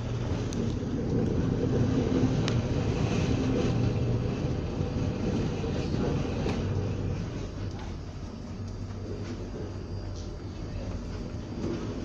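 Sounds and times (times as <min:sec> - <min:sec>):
ship machinery rumble and hum: 0:00.0 - 0:12.0.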